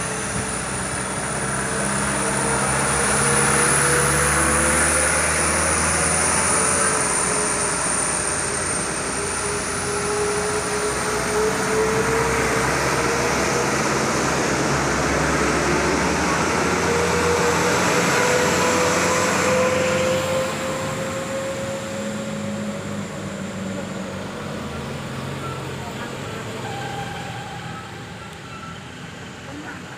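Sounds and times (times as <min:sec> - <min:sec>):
whine drifting in pitch: 0:00.0 - 0:28.8
road traffic rushing: 0:00.0 - 0:29.9.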